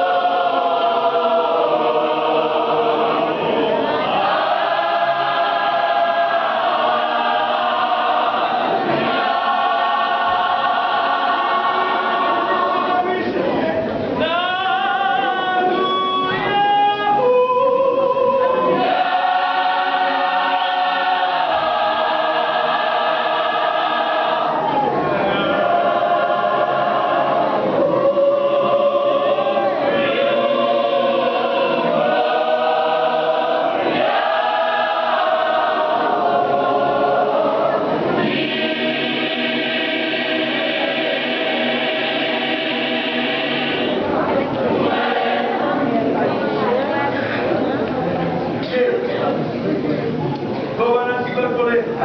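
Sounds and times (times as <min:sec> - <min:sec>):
gospel choir singing: 0:00.0 - 0:47.4.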